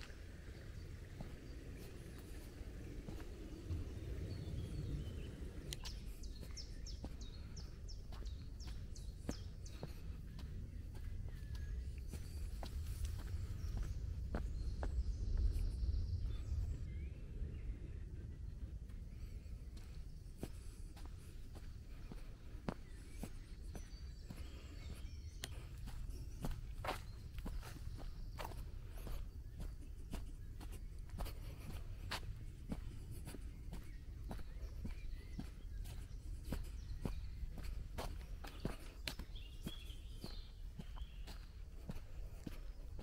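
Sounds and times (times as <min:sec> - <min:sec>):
footsteps on dirt path: 0:00.0 - 0:17.1, 0:18.7 - 0:43.0
steady low rumble: 0:00.0 - 0:43.0.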